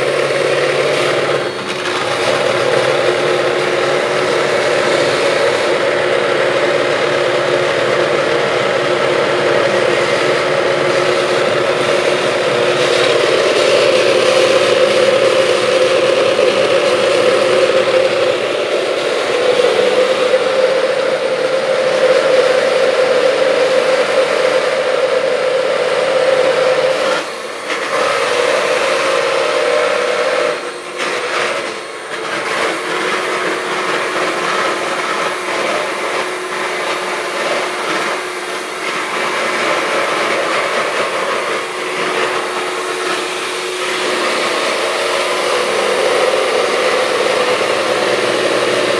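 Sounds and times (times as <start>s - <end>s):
electric hand mixer whirring: 0.0s - 48.9s.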